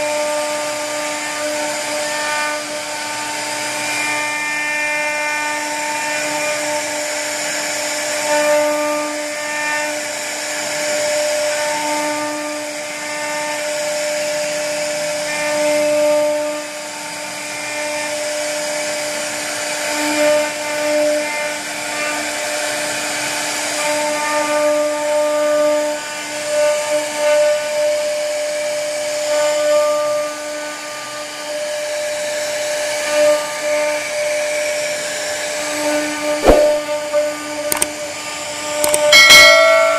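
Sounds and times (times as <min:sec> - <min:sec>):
router spindle cutting wood: 0:00.0 - 0:39.1.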